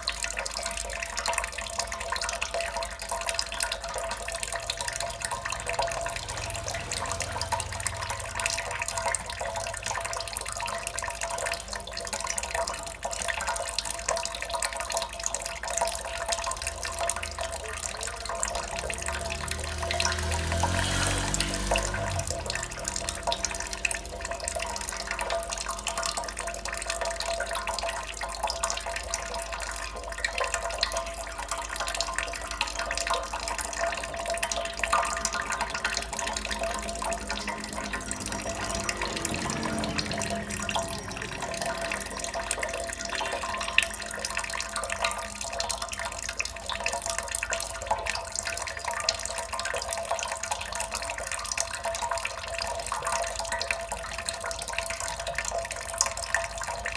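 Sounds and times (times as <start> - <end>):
water dripping and trickling: 0.0 - 56.9.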